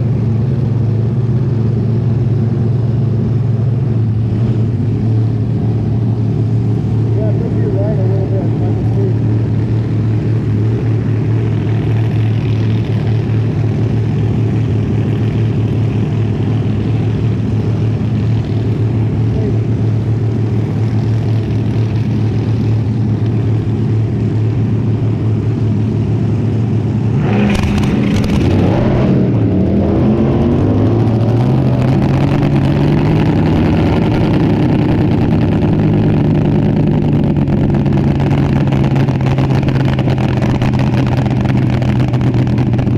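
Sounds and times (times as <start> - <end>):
dragster engine running: 0.0 - 42.9.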